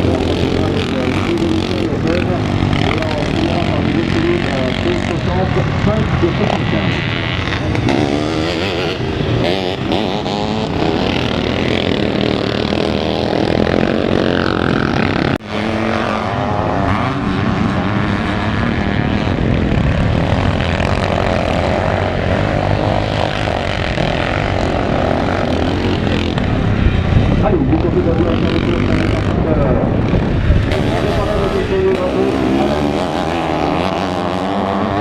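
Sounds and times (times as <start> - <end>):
motorcycles racing: 0.0 - 35.0.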